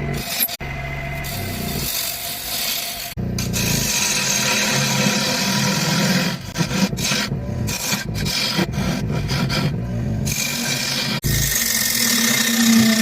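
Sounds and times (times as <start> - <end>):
tool scraping spinning wood: 0.0 - 13.0.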